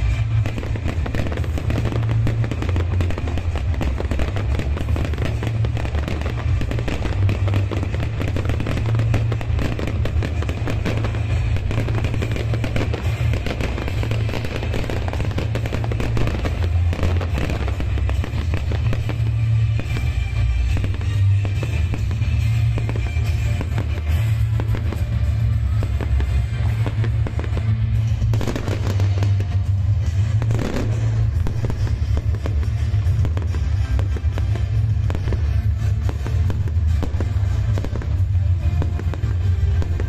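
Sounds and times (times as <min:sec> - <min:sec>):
fireworks crackling and popping: 0:00.0 - 0:40.0
music with heavy bass: 0:00.0 - 0:40.0.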